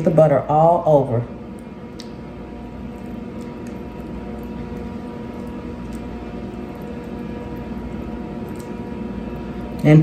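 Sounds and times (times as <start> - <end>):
kitchen appliance hum and hiss: 0.0 - 10.0.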